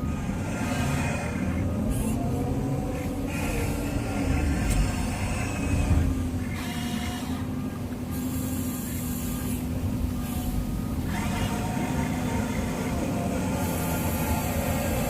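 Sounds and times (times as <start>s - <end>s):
small electric motors humming: 0.0s - 15.0s.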